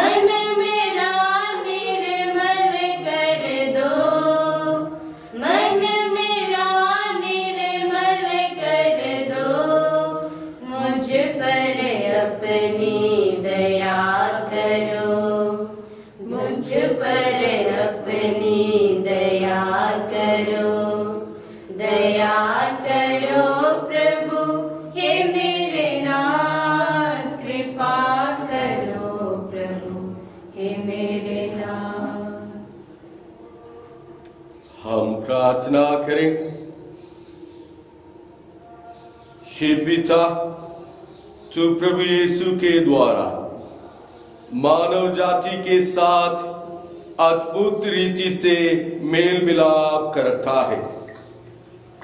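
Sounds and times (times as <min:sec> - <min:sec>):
choir singing a chant-like hymn: 0:00.0 - 0:51.0.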